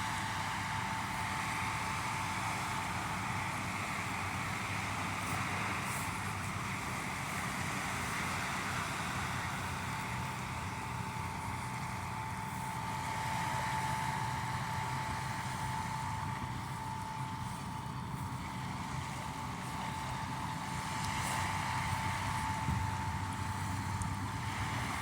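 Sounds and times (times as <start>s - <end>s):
engine humming: 0.0s - 25.0s
thin steady whine: 0.0s - 25.0s.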